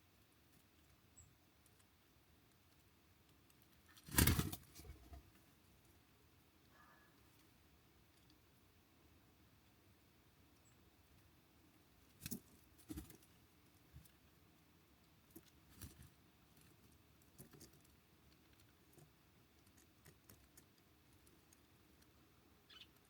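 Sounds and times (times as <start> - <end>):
birds pecking at seed: 0.0 - 23.0.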